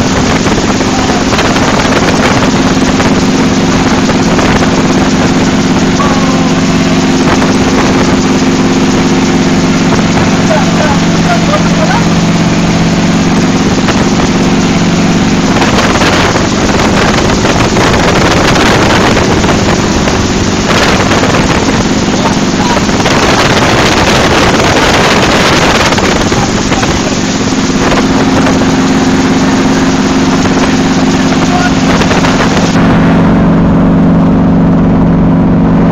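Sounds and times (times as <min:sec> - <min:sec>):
helicopter drone: 0:00.0 - 0:35.9
wind buffeting microphone: 0:00.0 - 0:35.9.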